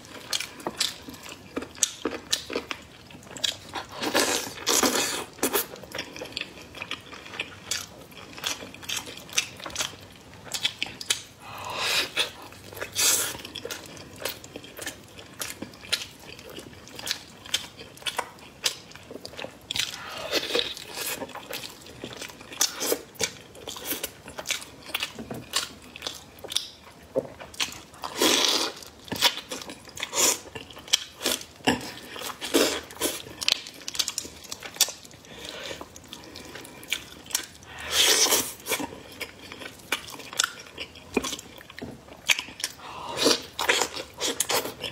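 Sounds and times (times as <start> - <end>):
person chewing meat: 0.0 - 44.9.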